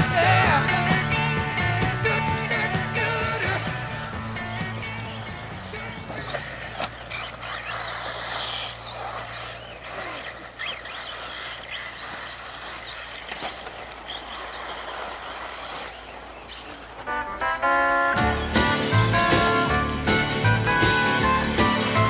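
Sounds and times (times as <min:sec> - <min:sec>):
electric motor and gears whining: 0:00.0 - 0:17.2, 0:18.2 - 0:22.0
tyres hissing on dirt: 0:00.0 - 0:17.3, 0:18.2 - 0:22.0.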